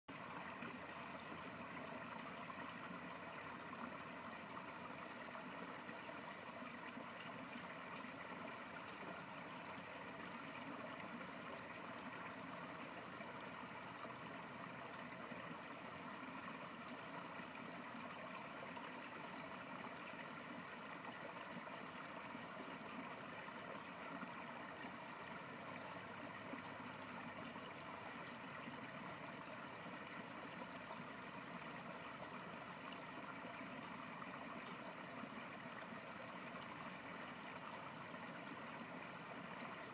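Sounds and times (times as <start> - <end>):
stream water rushing and gurgling: 0.1 - 39.9.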